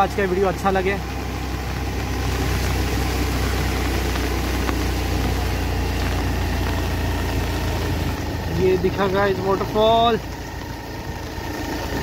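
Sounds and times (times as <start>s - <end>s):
small vehicle engine climbing: 0.0s - 12.0s
wet tyres hissing: 0.0s - 12.0s.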